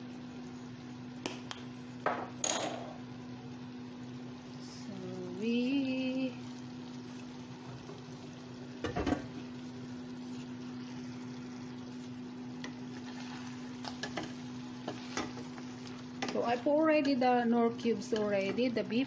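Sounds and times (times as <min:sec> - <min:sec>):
ribs sizzling in a pan: 0:00.0 - 0:19.0.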